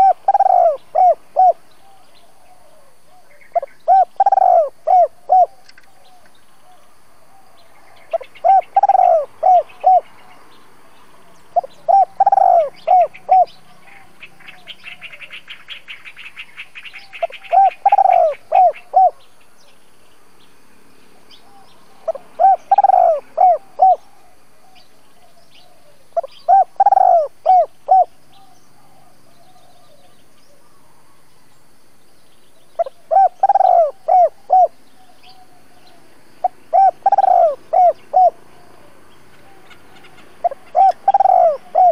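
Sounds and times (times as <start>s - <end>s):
dove cooing: 0.0s - 10.3s, 11.5s - 16.2s, 16.8s - 19.2s, 21.4s - 30.8s, 32.8s - 41.9s.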